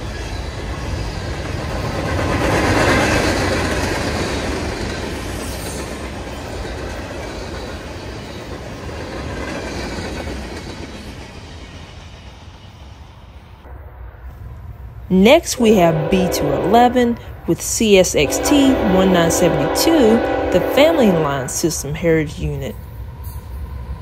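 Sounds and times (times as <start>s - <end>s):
freight train cars rolling: 0.0s - 13.6s, 14.4s - 24.0s.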